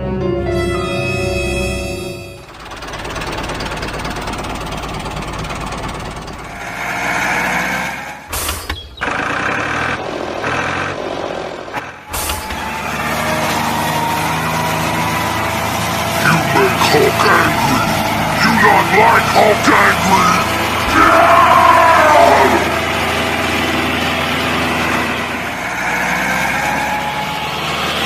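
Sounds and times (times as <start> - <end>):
vehicle engine running: 1.4 - 28.0.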